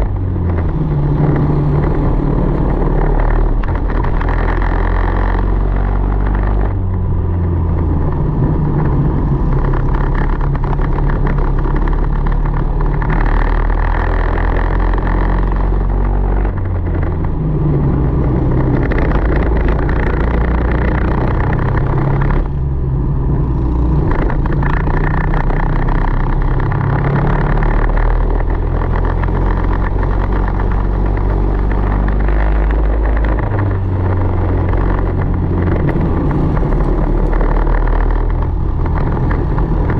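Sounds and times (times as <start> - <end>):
kart engine racing: 0.0 - 39.9.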